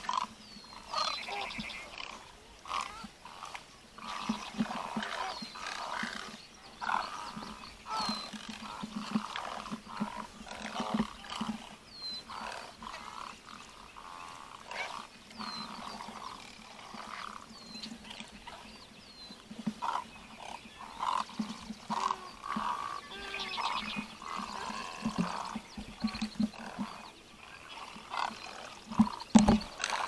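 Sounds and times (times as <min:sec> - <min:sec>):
harsh guttural croaking calls: 0:00.0 - 0:30.0.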